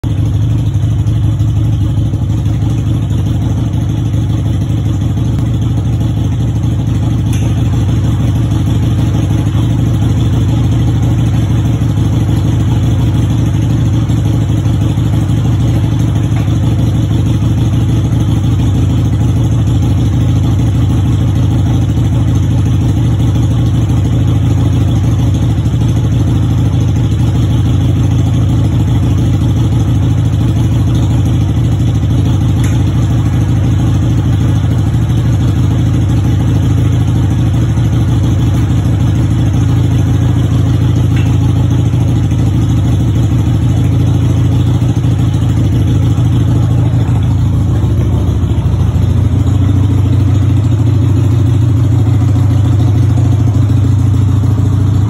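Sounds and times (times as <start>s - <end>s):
low mechanical drone: 0.0s - 23.2s, 28.8s - 55.0s.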